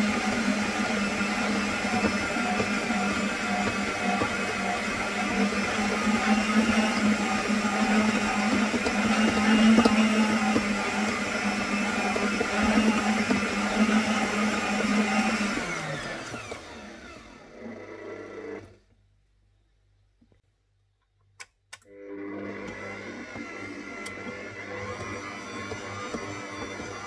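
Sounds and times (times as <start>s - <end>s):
stand mixer motor running: 0.0s - 18.6s, 21.9s - 27.0s.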